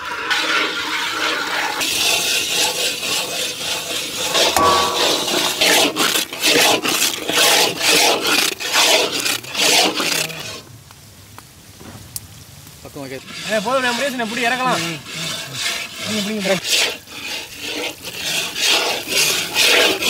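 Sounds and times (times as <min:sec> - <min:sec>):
metal spatula scraping batter: 0:00.0 - 0:10.6, 0:13.0 - 0:20.0.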